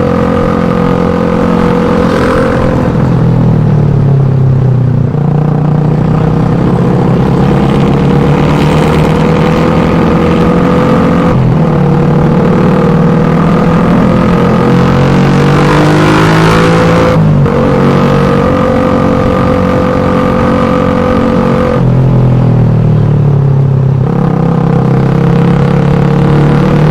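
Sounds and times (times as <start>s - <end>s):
motorcycle engine running under load: 0.0s - 26.9s.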